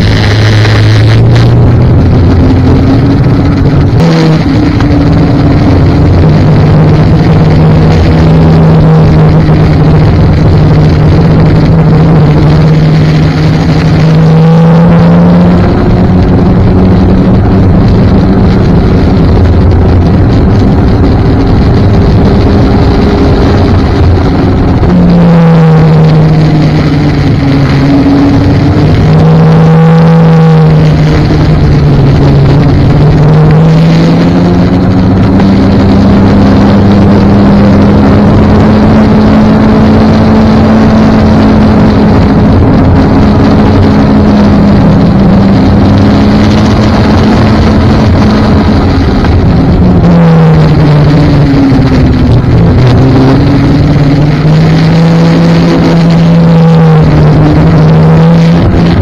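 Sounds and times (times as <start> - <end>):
rushing noise: 0.0 - 59.0
snowmobile engine running: 0.0 - 59.0.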